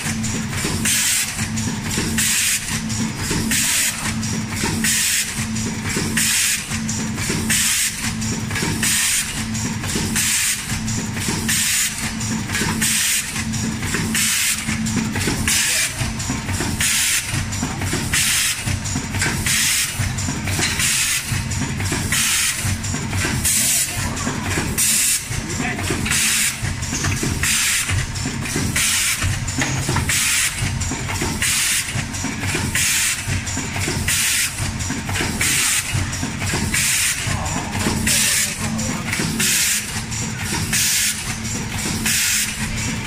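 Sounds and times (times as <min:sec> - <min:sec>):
filling machine humming: 0:00.0 - 0:43.0
rhythmic machine hiss: 0:00.0 - 0:43.0.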